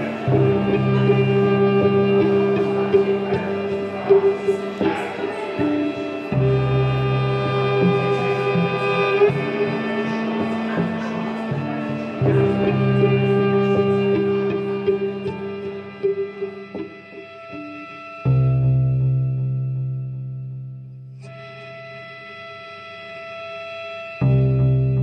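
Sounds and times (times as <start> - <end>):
music of long held notes: 0.0 - 25.0.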